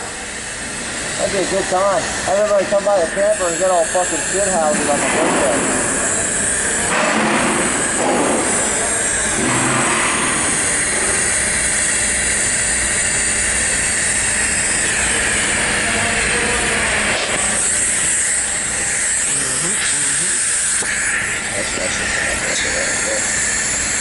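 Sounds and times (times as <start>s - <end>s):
welding arc hissing: 0.0s - 24.0s.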